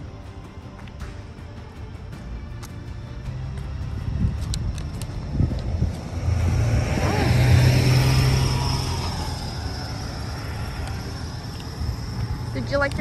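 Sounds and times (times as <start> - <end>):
coach driving past: 0.0 - 13.0.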